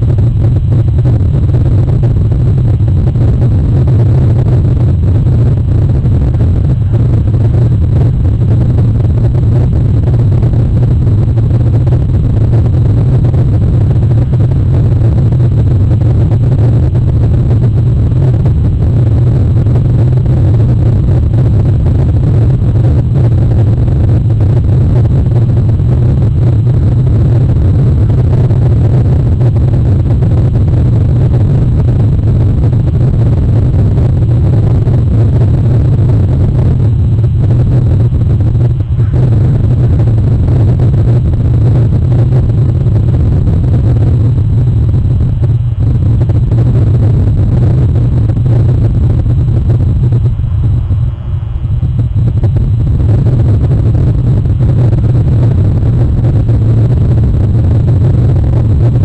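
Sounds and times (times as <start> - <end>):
loud low rumble: 0.0 - 59.0.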